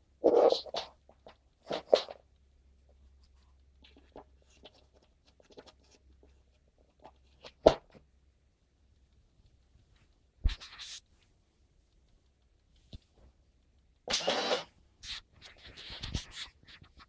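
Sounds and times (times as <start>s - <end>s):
faint clicks and rustles: 0.7s - 17.0s.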